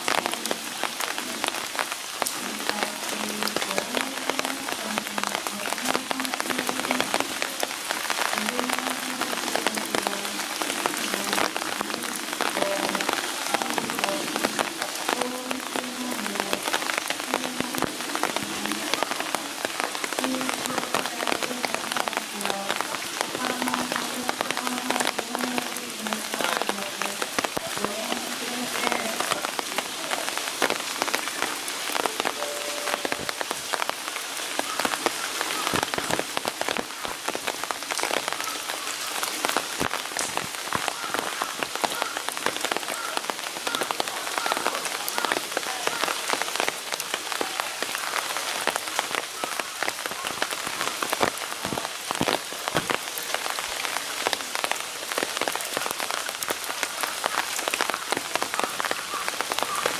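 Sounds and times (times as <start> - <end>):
raindrops striking hard surfaces: 0.0 - 59.9
steady rain falling: 0.0 - 59.9.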